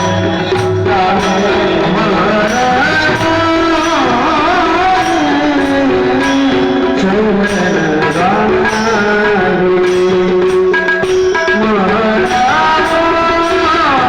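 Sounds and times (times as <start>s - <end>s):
held instrumental tones: 0.0s - 14.0s
percussion strokes: 0.0s - 14.0s
person singing: 0.0s - 14.0s.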